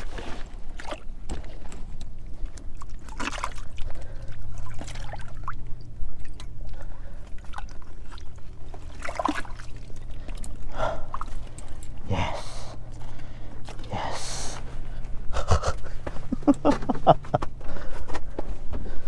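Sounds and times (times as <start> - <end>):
water sloshing and trickling: 0.0 - 19.0
steady low hum: 0.8 - 19.0.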